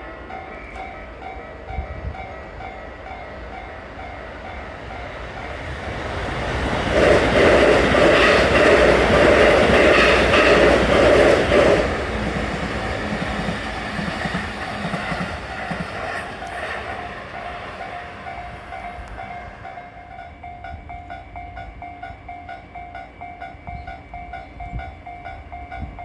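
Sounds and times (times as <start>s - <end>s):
train passing: 0.0s - 26.0s
wheels on rail: 0.0s - 26.0s.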